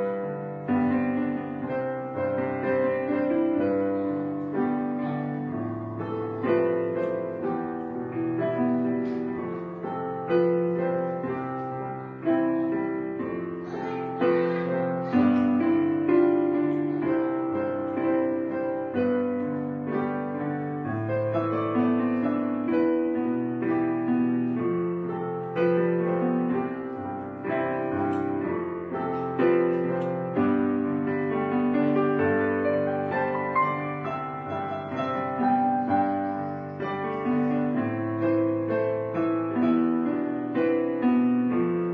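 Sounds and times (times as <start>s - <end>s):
piano music: 0.0s - 41.9s.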